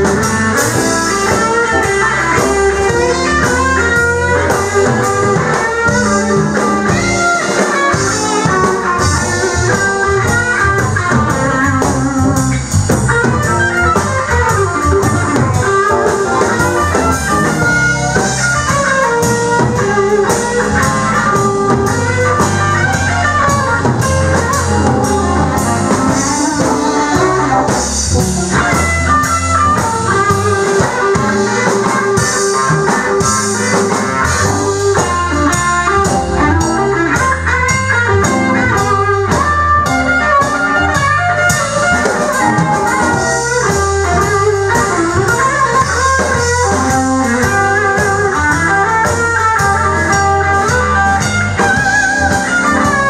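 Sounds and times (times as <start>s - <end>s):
drum kit beat: 0.0s - 53.0s
electric guitar: 0.0s - 53.0s.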